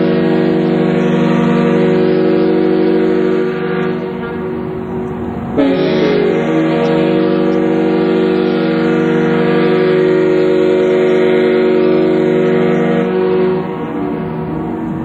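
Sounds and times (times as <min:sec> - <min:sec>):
ship's steam whistle blast: 0:00.0 - 0:15.0.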